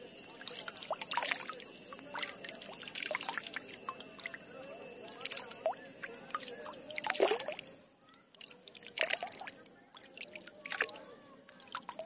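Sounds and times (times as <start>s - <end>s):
water drips and splashes: 0.0s - 12.0s.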